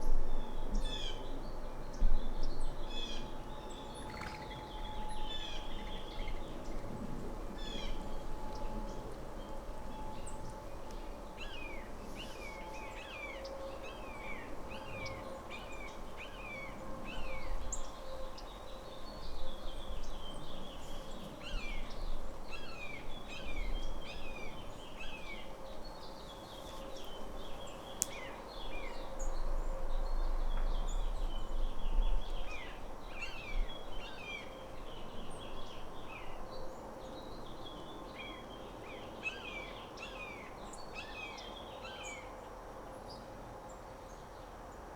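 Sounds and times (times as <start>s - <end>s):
songbirds chirping: 7.6s - 44.9s.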